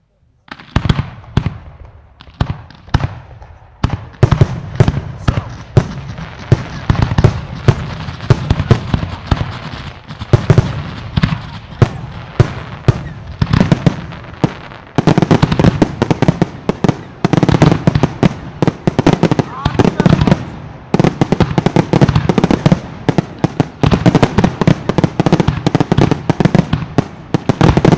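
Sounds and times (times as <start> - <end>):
fireworks bursting bangs: 0.4 - 27.9.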